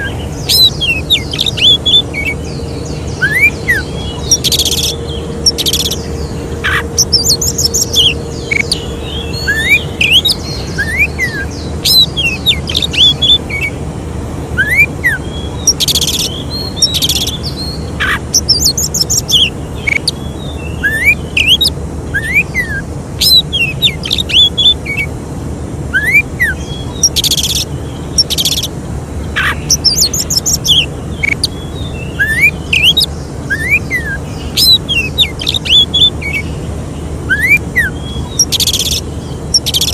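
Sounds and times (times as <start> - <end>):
bird song with chirps and whistles: 0.0 - 13.9, 14.5 - 25.1, 25.9 - 39.9
low hum: 0.0 - 39.9.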